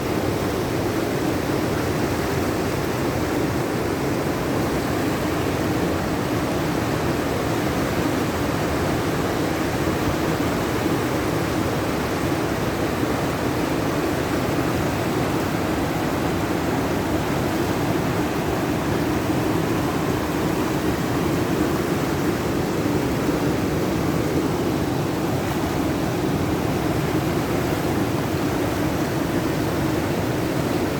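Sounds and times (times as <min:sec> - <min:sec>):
flooded river rushing: 0:00.0 - 0:30.9.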